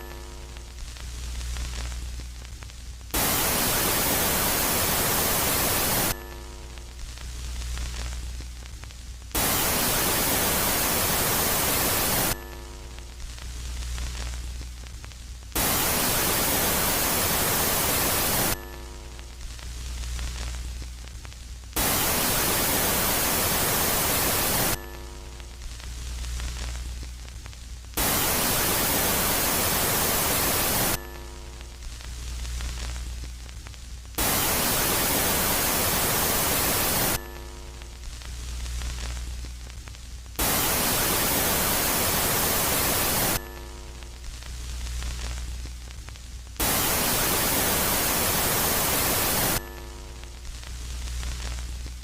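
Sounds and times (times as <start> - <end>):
loud static hiss: 0.0 - 52.0.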